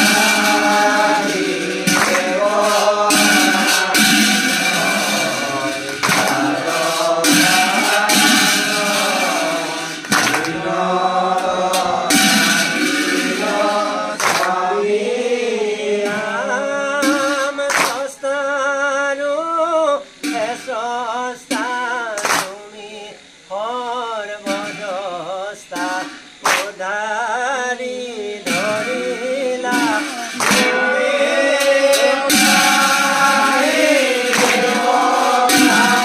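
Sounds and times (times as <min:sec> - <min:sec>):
sharp percussive strikes: 0:00.0 - 0:18.3, 0:20.1 - 0:23.4, 0:24.4 - 0:26.9, 0:28.4 - 0:36.0
man singing devotional song: 0:00.0 - 0:36.0.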